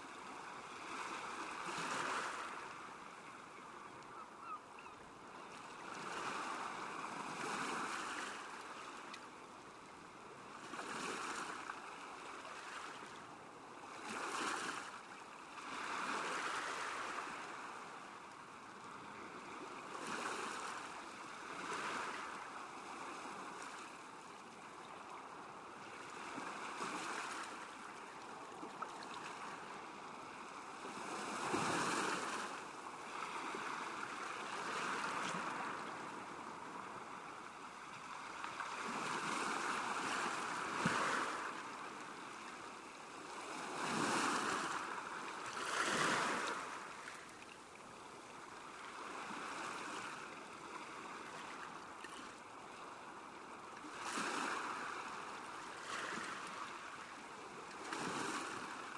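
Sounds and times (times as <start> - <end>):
lake waves lapping at shore: 0.0 - 58.9.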